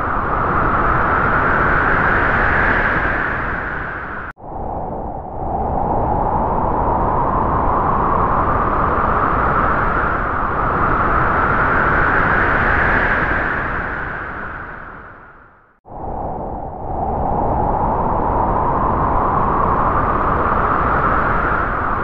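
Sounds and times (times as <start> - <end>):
howling wind: 0.0 - 22.0.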